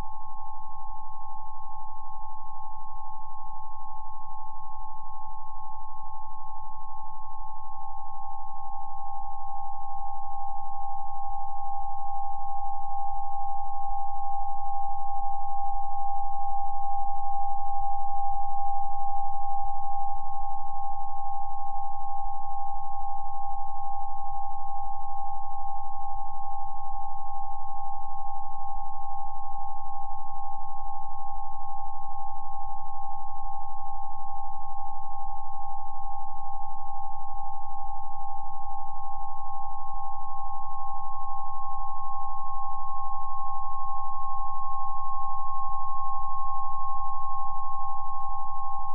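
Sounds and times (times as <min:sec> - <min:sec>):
electronic sine tones: 0:00.0 - 0:48.9.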